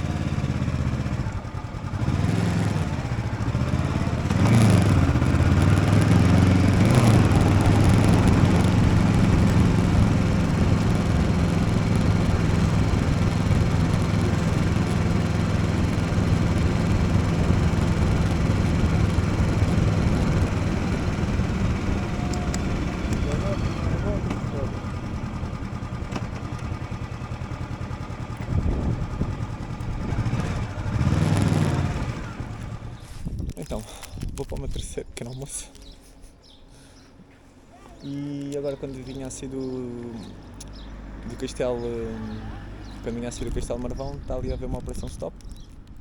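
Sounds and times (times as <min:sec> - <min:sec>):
motorcycle engine accelerating: 0:00.0 - 0:34.6, 0:35.7 - 0:46.0.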